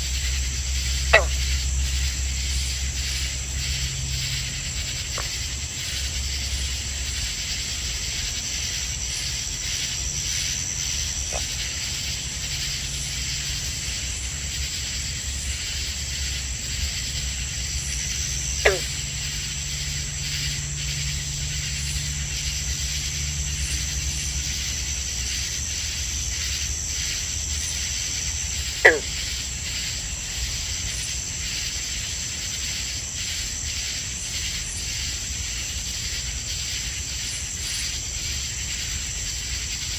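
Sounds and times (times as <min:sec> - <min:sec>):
crickets and katydids trilling: 0:00.0 - 0:39.9.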